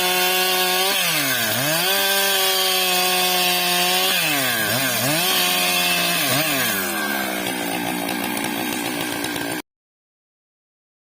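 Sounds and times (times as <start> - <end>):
chainsaw running at high revs: 0.0 - 9.6.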